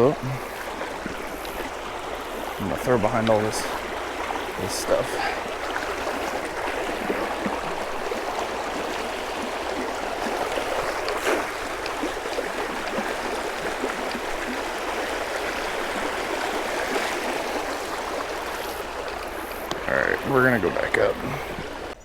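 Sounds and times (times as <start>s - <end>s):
creek water running over riffle: 0.0s - 22.0s.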